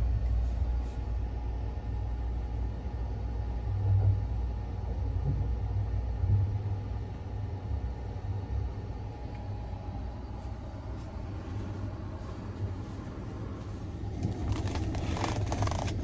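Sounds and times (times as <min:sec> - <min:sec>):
train rumble from inside: 0:00.0 - 0:16.0.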